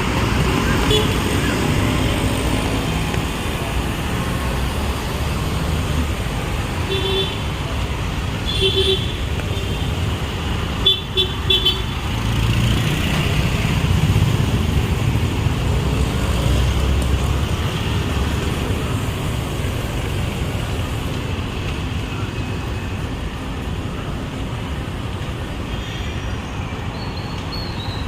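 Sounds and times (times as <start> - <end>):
traffic engines running: 0.0 - 28.0.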